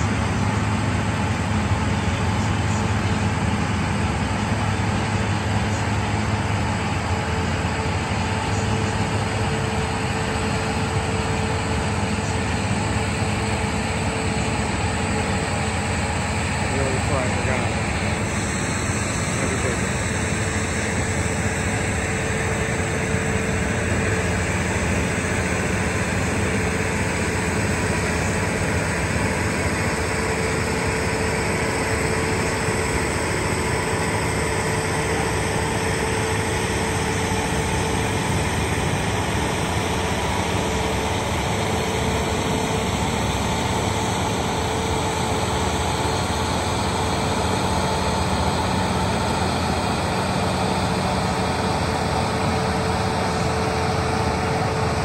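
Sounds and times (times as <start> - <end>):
train running slowly: 0.0 - 55.0.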